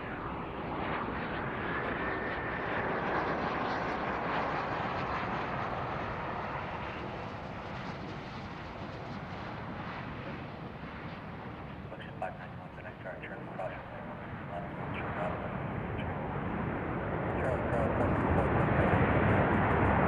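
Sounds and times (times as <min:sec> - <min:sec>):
jet landing: 0:00.0 - 0:20.0.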